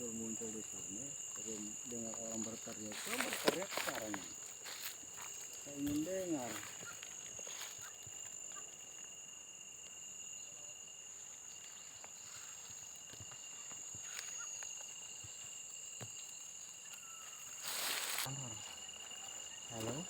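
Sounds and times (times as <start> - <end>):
insects chorus high-pitched tones: 0.0 - 20.0.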